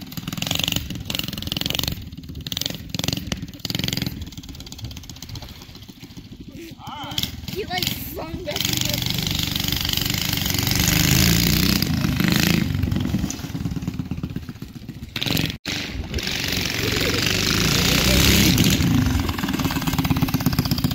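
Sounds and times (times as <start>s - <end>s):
small motorbike engine running: 0.0s - 20.9s.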